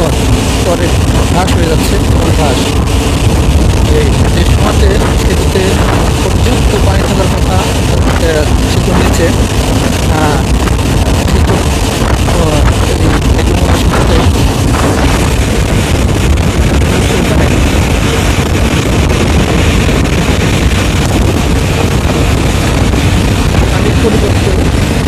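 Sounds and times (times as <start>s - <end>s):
vehicle rumble: 0.0s - 25.0s
wind buffeting microphone: 0.0s - 25.0s.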